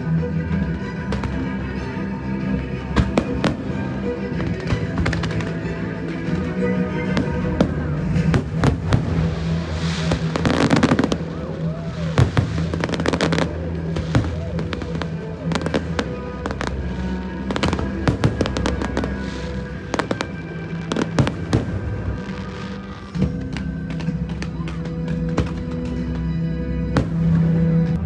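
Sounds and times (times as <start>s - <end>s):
fireworks bangs and crackles: 0.0s - 28.0s
music from loudspeakers: 0.0s - 28.0s.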